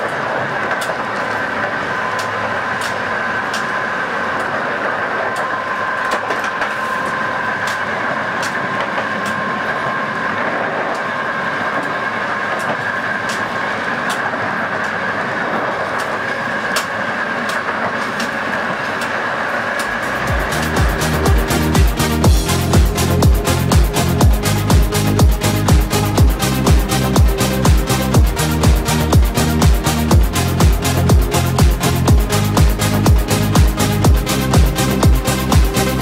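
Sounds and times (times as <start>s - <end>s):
high steady whines: 0.0s - 36.0s
rail joint clicks: 0.0s - 36.0s
train rushing and rumbling: 0.0s - 36.0s.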